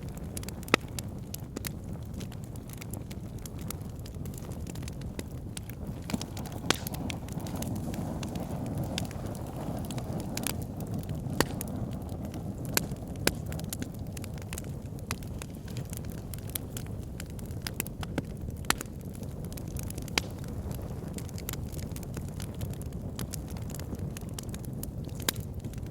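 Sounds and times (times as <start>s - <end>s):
fire crackling and popping: 0.0s - 25.9s
low rush of flame: 0.0s - 25.9s.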